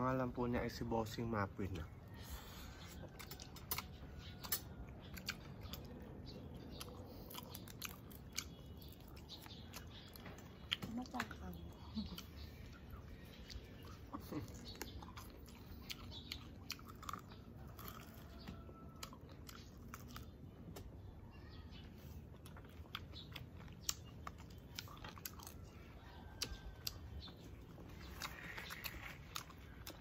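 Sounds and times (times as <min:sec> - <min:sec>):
chewing food: 0:00.7 - 0:30.0.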